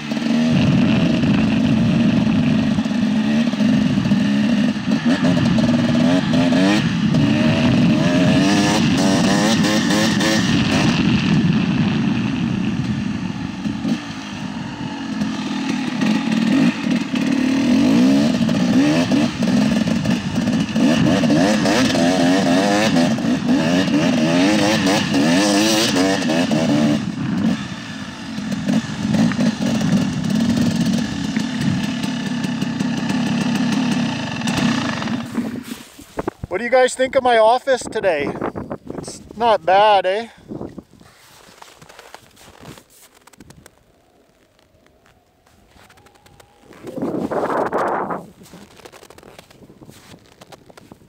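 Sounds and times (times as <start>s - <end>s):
dirt bike engine revving: 0.0s - 37.2s, 45.1s - 49.5s.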